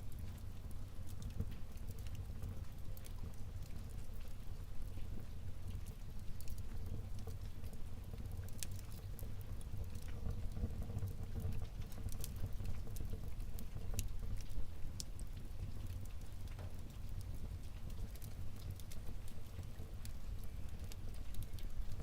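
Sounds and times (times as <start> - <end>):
logs crackling and popping: 0.0 - 22.0
low rumble of flame: 0.0 - 22.0.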